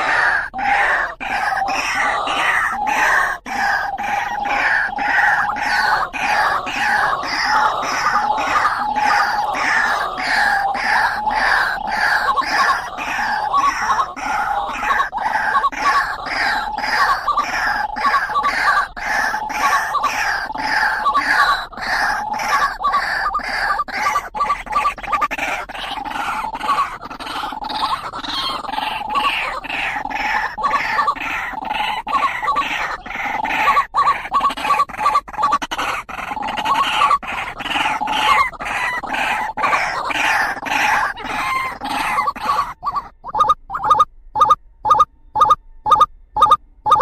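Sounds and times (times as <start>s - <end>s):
waterhen harsh calls: 0.0s - 47.0s.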